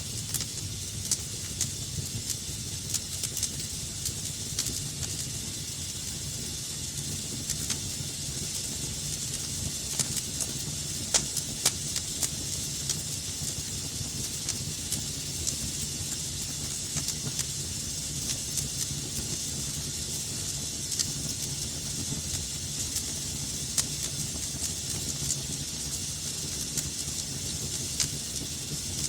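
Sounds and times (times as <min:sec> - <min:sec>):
fire crackling and popping: 0:00.0 - 0:29.0
wood fire hissing and rumbling: 0:00.0 - 0:29.0.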